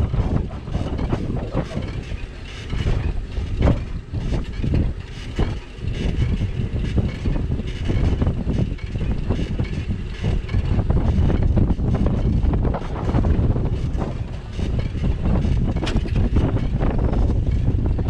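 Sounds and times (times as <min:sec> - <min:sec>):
bike knocks and rattles: 0:00.0 - 0:18.0
wind rumble on microphone: 0:00.0 - 0:18.0.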